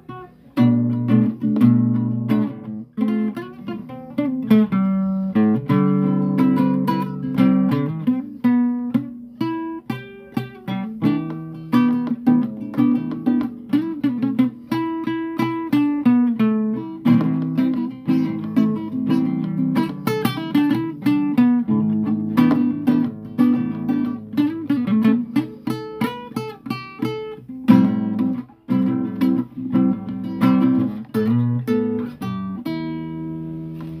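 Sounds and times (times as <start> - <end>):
solo acoustic guitar: 0.0 - 34.0.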